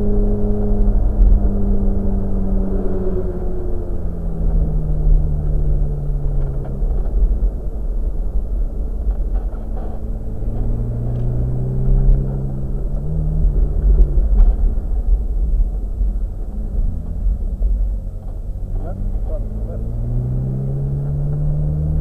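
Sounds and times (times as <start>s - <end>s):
sports car engine: 0.0s - 22.0s
wind and road rumble: 0.0s - 22.0s.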